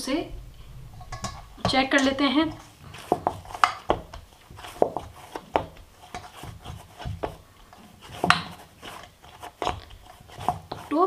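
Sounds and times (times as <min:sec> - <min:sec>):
dough kneaded in steel bowl: 0:00.0 - 0:11.0.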